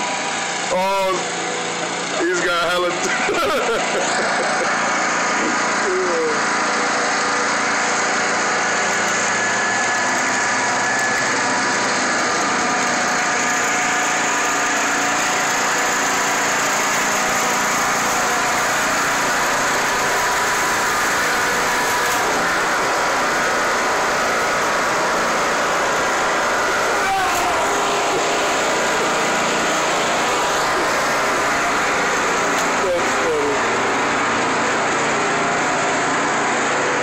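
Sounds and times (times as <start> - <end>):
riding mower engine running: 0.0 - 37.0.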